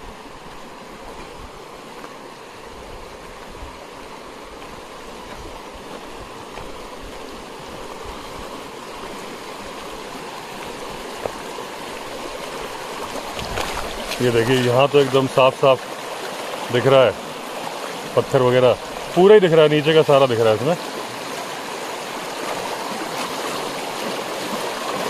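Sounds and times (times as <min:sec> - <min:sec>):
stream flowing over stones: 0:00.0 - 0:25.0.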